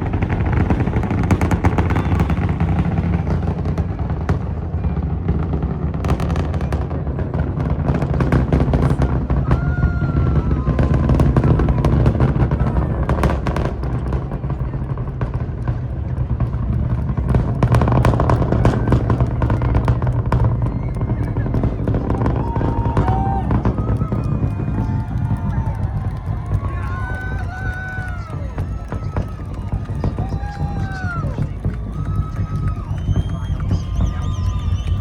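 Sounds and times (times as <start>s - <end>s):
rocket rumbling and crackling: 0.0s - 35.0s.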